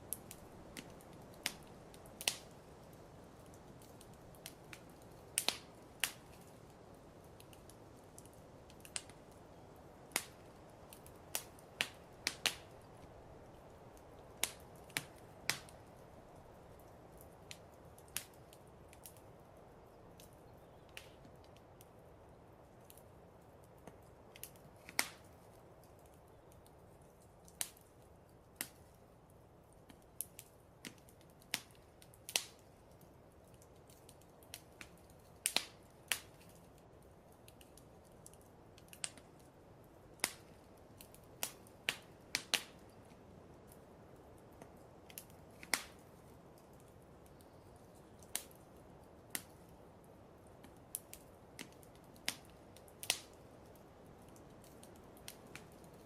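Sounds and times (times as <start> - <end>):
fire crackling and popping: 0.0 - 56.0
low hiss of fire: 0.0 - 56.0.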